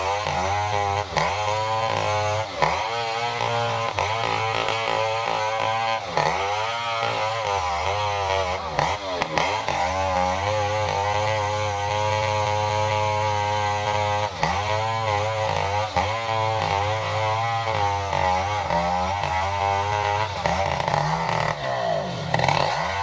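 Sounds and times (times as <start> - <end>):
chainsaw cutting log: 0.0 - 23.0.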